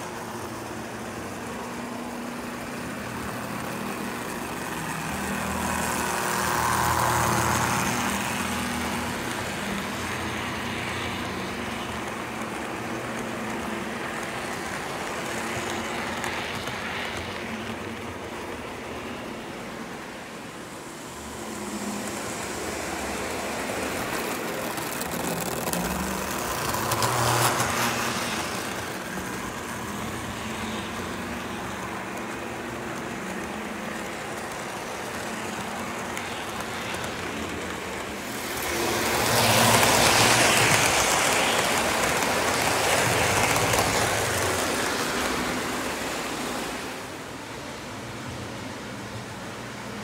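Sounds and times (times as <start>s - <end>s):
model train rumbling on rails: 0.0s - 50.0s.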